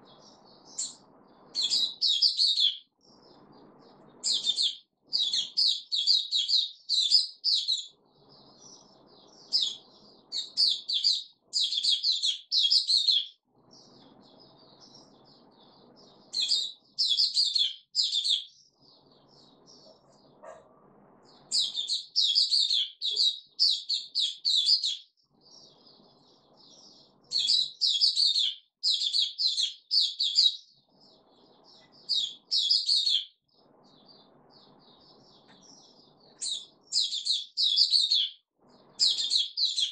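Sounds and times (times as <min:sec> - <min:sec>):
bird twittering: 0:00.0 - 0:20.7, 0:21.4 - 0:39.9.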